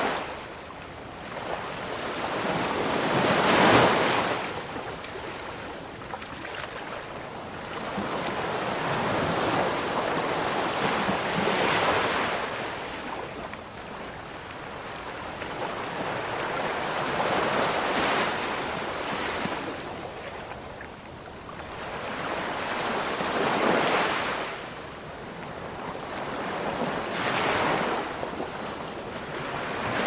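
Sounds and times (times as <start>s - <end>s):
ocean waves rolling in: 0.0s - 30.0s.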